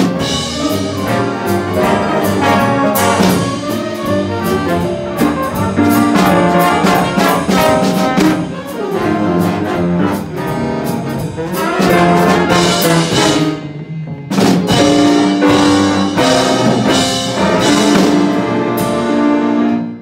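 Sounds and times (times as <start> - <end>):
big band jazz ensemble: 0.0 - 20.0
saxophones: 0.0 - 20.0
trombones: 0.0 - 20.0
trumpets: 0.0 - 20.0.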